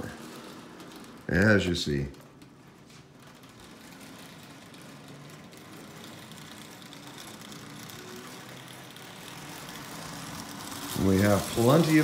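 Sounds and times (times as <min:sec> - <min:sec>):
toy train running on track: 0:00.0 - 0:12.0.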